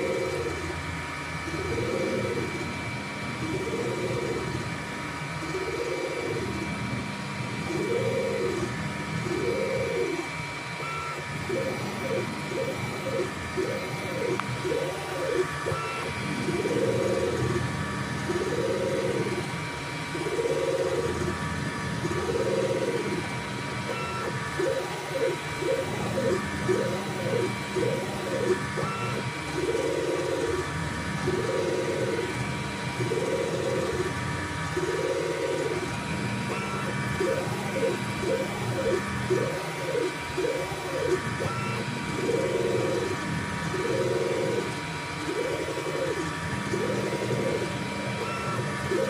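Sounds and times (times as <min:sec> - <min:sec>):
stepper motors whining: 0:00.0 - 0:49.0.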